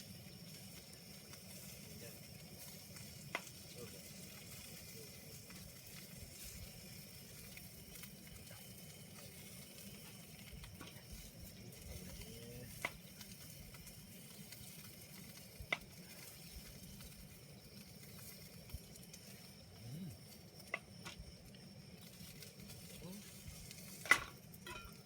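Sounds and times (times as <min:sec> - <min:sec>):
fire crackling pops: 0:00.0 - 0:25.0
food sizzling in a pan: 0:00.0 - 0:25.0.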